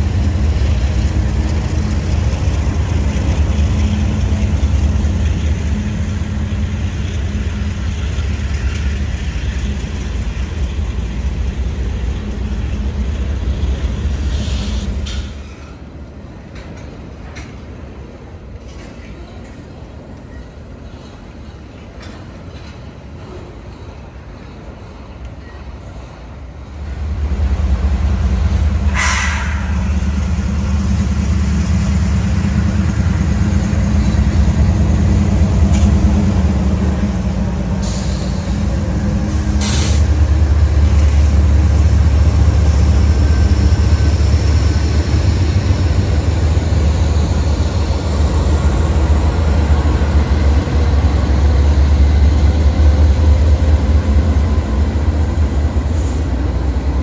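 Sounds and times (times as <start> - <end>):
diesel locomotive engine rumble: 0.0 - 57.0.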